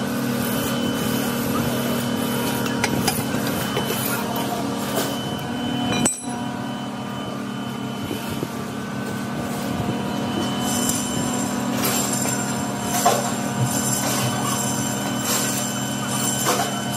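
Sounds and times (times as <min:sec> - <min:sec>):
workshop machinery humming: 0:00.0 - 0:16.9.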